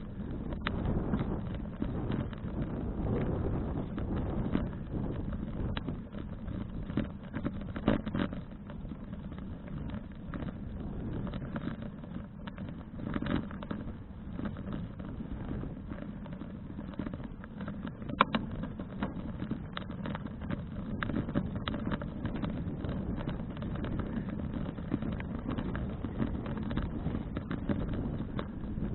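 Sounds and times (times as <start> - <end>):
bike clicks and rattles: 0.0 - 28.9
wind rushing over microphone: 0.0 - 28.9.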